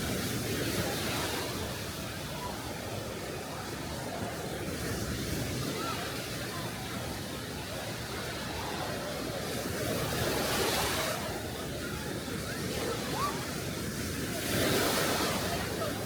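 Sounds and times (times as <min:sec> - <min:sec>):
small waves breaking on a beach: 0:00.0 - 0:16.0.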